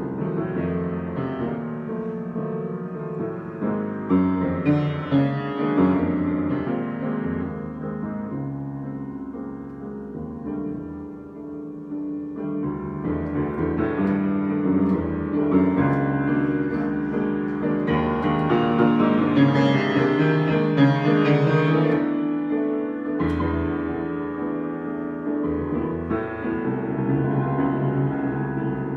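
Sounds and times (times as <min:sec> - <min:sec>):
solo piano chords: 0:00.0 - 0:28.9.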